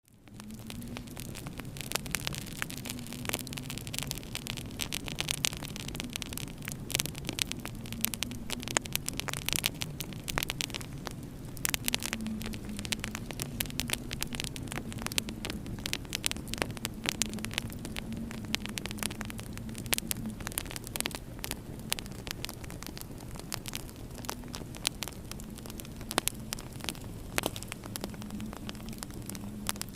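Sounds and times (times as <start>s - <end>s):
fireplace fire crackling and popping: 0.0s - 29.9s
steady low hum: 0.1s - 29.9s.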